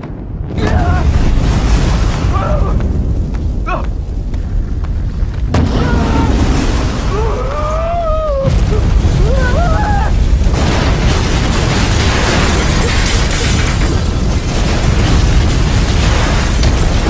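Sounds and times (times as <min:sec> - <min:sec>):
deep rumble: 0:00.0 - 0:17.0
explosion blasts: 0:00.0 - 0:17.0.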